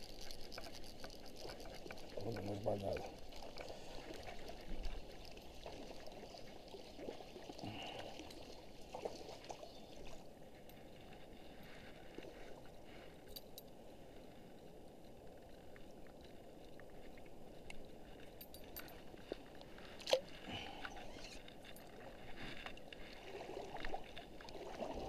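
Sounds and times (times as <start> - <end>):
faint running water: 0.0 - 25.0.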